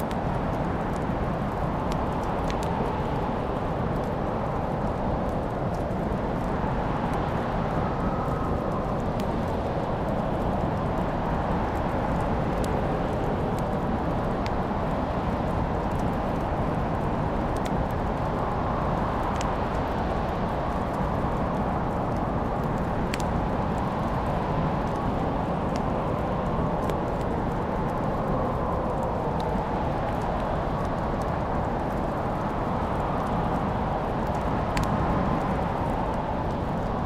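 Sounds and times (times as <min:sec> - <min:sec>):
fire crackling and popping: 0:00.0 - 0:37.0
low rushing of fire: 0:00.0 - 0:37.0.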